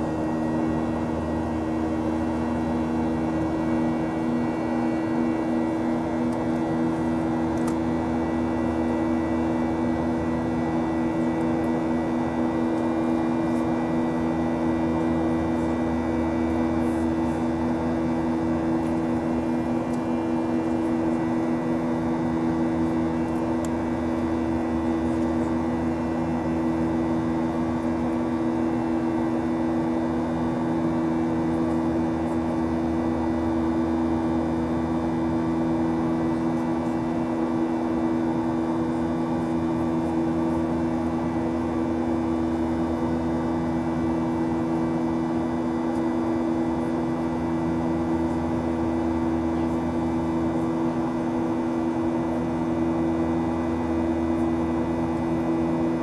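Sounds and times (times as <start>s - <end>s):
jet engine cabin drone: 0.0s - 56.0s
low hum tones: 0.0s - 56.0s.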